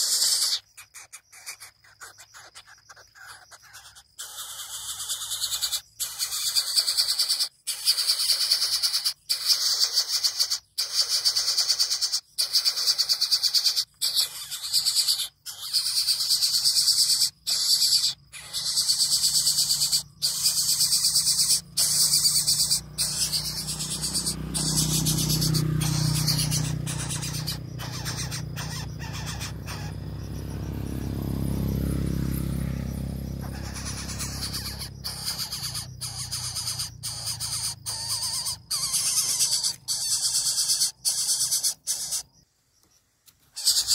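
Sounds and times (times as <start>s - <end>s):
chick hissing buzzes: 0.0s - 2.6s, 3.4s - 42.4s, 43.4s - 43.9s.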